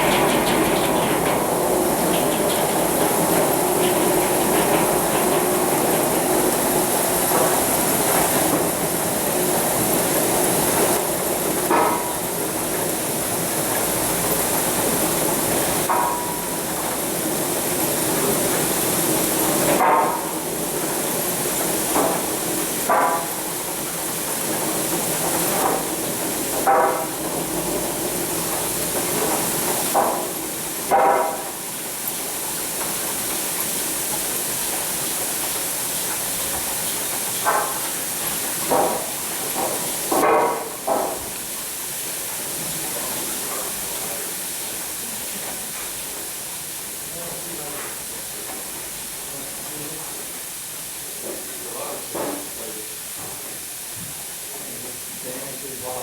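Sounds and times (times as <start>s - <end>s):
sawmill machinery running: 0.0s - 53.7s.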